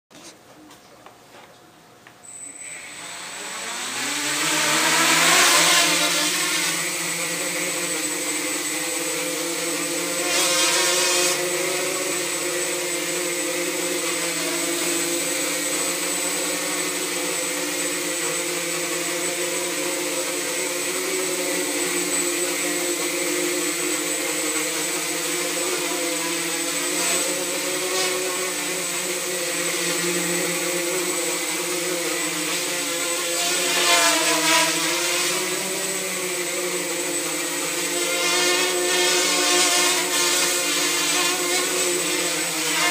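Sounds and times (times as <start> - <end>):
quadcopter motors buzzing: 2.4 - 42.9.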